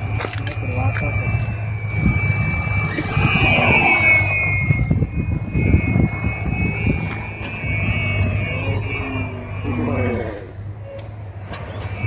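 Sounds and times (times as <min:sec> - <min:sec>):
low rumble: 0:00.0 - 0:12.0
model airplane motor whine: 0:00.0 - 0:12.0.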